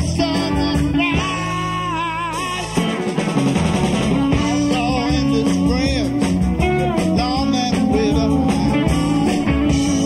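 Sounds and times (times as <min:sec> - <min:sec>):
electric guitar bent notes: 0:00.0 - 0:10.0
live rock band playing: 0:00.0 - 0:10.0.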